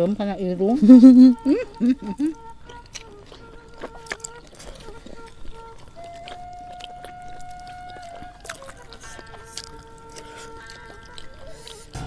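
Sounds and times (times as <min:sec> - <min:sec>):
faint background music: 0:00.0 - 0:12.0
person chewing food: 0:01.5 - 0:12.0.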